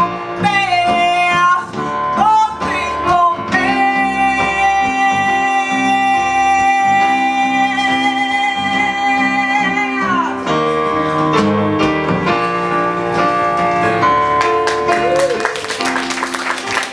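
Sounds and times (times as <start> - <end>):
guitar and keyboard accompaniment: 0.0 - 16.9.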